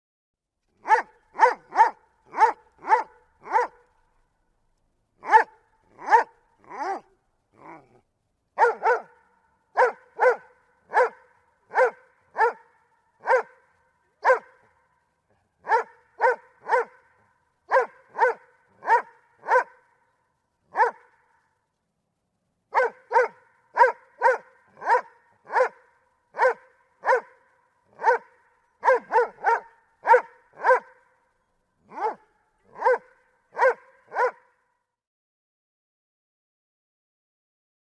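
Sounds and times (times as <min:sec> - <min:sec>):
dog barking: 0:00.8 - 0:03.9, 0:05.2 - 0:08.0, 0:08.6 - 0:20.1, 0:20.7 - 0:21.6, 0:22.7 - 0:34.8.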